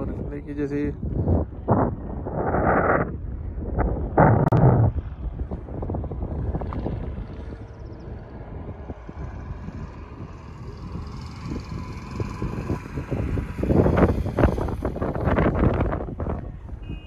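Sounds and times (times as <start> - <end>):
low vehicle rumble: 0.0 - 17.0
wind buffeting microphone: 0.0 - 17.0.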